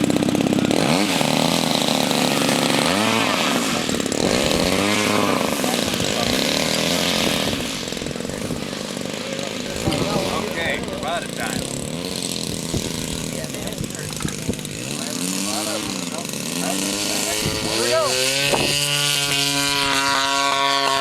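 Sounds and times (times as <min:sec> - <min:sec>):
light aircraft engine revving: 0:00.0 - 0:21.0.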